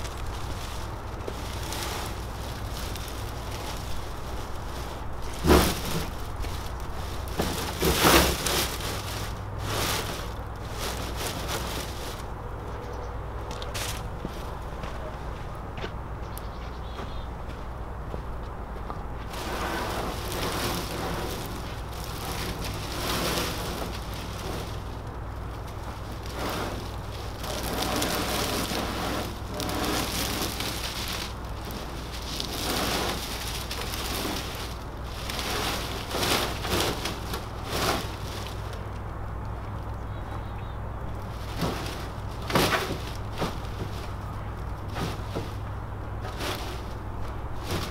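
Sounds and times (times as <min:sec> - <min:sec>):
dry grass rustling and crackling: 0:00.0 - 0:47.9.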